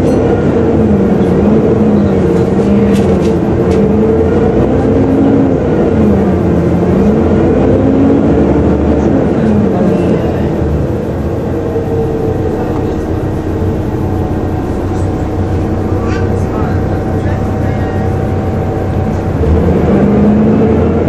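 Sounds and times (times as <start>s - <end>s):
bus diesel engine whining: 0.0s - 21.0s.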